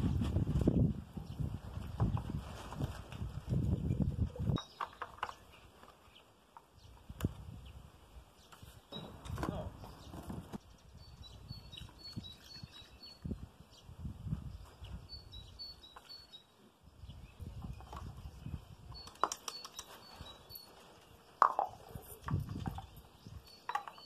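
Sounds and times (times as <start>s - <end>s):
small birds chirping: 3.5s - 24.0s.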